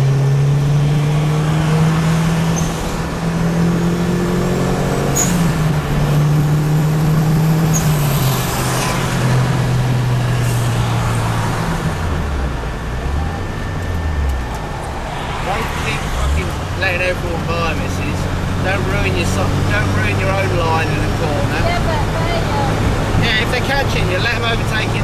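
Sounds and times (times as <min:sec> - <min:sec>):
car engine under load: 0:00.0 - 0:25.0
road and wind noise: 0:00.0 - 0:25.0.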